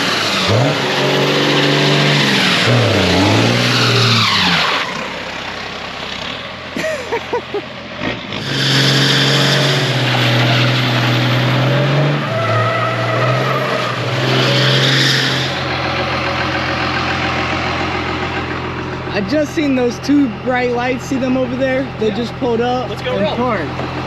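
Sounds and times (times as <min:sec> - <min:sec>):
tyres spinning on wet pavement: 0:00.0 - 0:21.2
car engine revving: 0:00.0 - 0:24.0.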